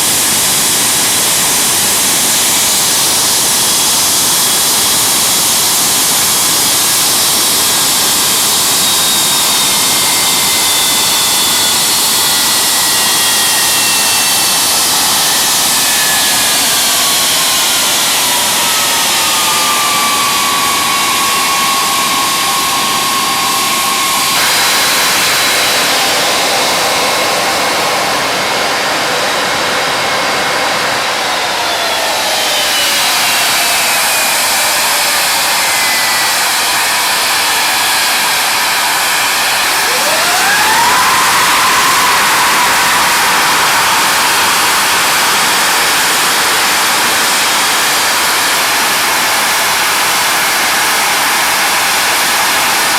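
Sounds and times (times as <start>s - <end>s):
jet engines spooling down: 0.0s - 52.9s.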